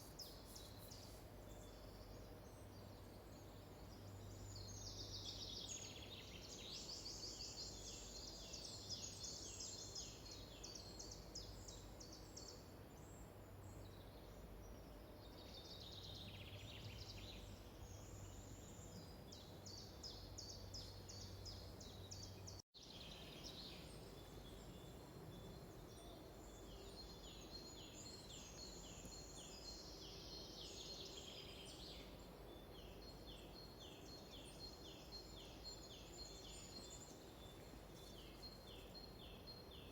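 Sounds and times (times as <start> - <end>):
songbirds singing trills: 0.0 - 39.9.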